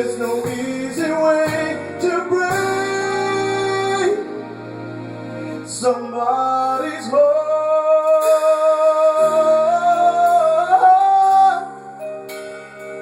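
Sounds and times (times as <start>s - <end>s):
person singing: 0.0s - 12.4s
instrumental backing: 0.0s - 13.0s.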